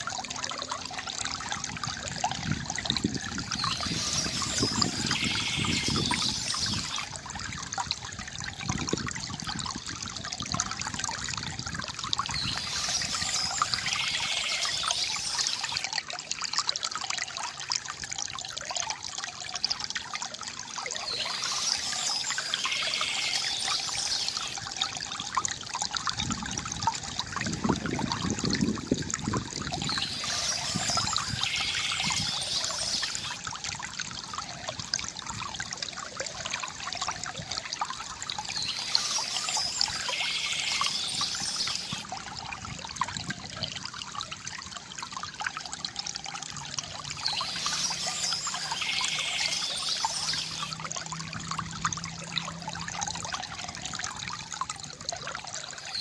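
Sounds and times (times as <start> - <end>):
water trickling from fountain: 0.0 - 56.0.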